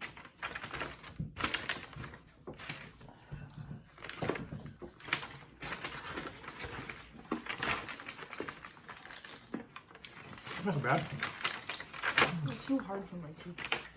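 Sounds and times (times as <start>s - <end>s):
crunching and chewing hard candy: 0.0s - 13.9s.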